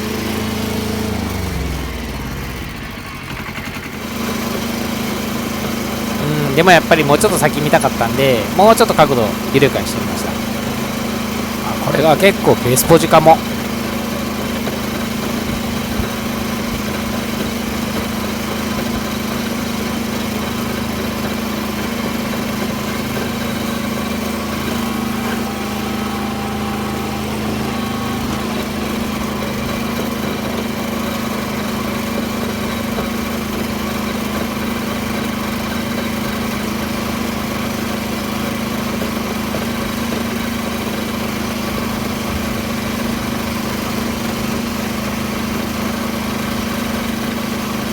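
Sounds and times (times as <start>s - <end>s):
tractor engine droning: 0.0s - 47.9s.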